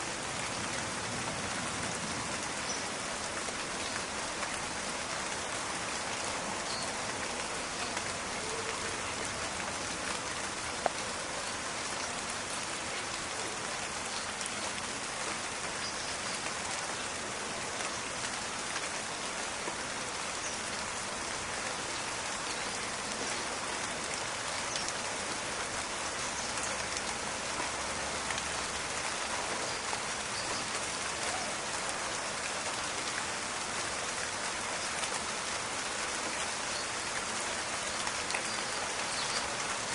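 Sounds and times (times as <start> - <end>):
steady rain in a forest: 0.0 - 39.9.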